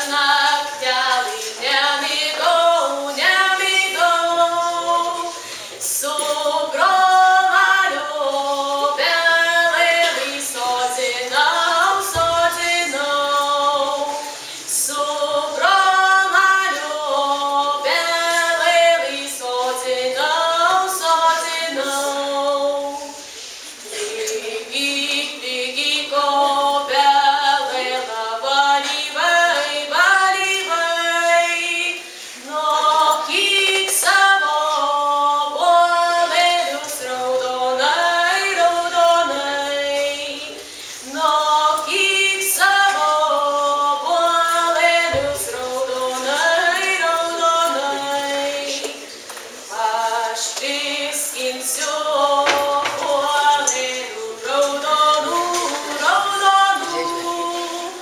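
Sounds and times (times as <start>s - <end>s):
girl and boy singing duet: 0.0s - 58.0s.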